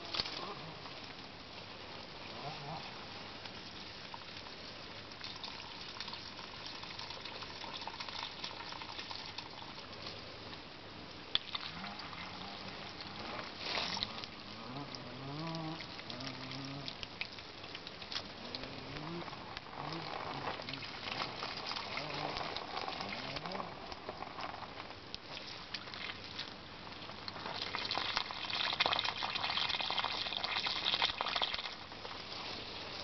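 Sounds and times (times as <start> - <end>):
crackles and clicks: 0.0 - 33.0
water splashing onto mulch: 0.0 - 33.0.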